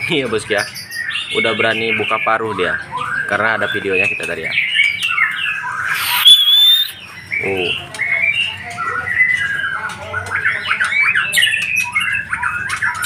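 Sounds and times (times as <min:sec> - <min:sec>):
songbird singing whistles and chatter: 0:00.0 - 0:13.0.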